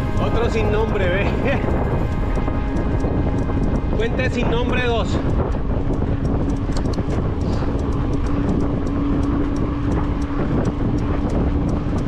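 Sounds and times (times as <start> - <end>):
steady hum: 0.0 - 12.0
stones ticking off tyres: 0.0 - 12.0
wind rumble on microphone: 0.0 - 12.0.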